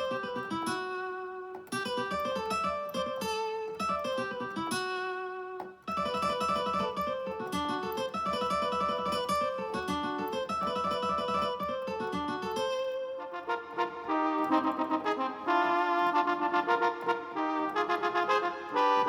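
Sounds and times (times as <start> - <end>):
keyboard playing guitar sound: 0.0 - 19.0.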